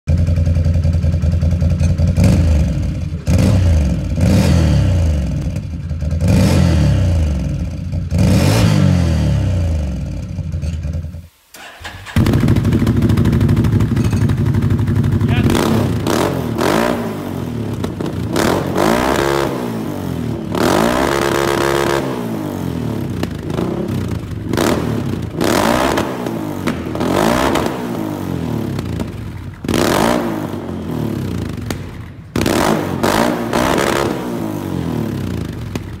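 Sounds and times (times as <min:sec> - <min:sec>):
engine revving: 0:02.1 - 0:10.4, 0:11.6 - 0:36.0.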